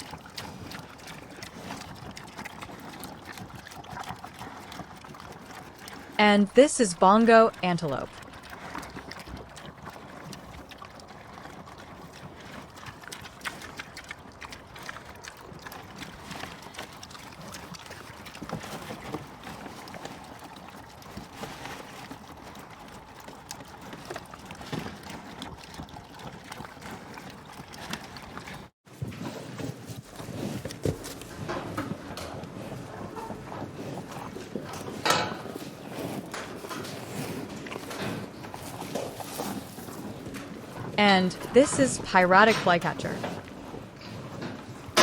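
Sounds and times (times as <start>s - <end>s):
hoof steps: 4.8s - 45.0s.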